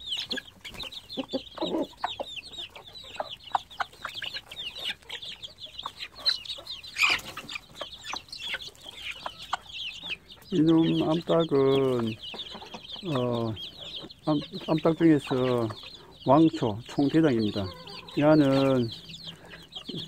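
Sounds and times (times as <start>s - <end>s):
chicks peeping: 0.0s - 20.0s
hen clucking: 0.0s - 20.0s.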